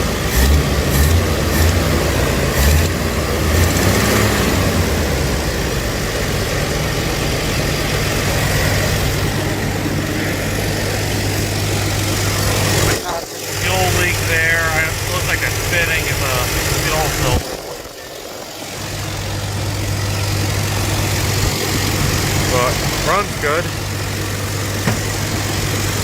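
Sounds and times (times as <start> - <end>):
car engine idling: 0.0 - 26.0
uneven low engine bumps: 0.0 - 26.0.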